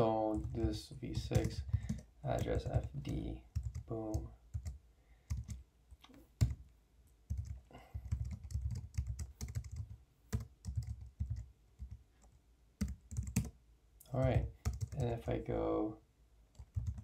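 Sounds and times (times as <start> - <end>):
computer keyboard typing: 0.3 - 6.6, 7.3 - 13.6, 14.2 - 15.2, 16.5 - 17.0.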